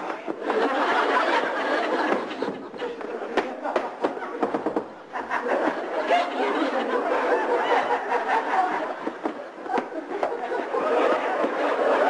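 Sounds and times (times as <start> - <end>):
people laughing together: 0.0 - 12.0.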